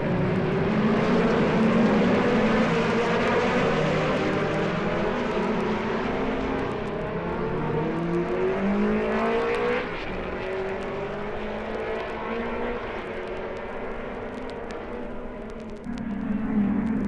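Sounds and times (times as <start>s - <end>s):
racing car engines accelerating: 0.0s - 17.0s.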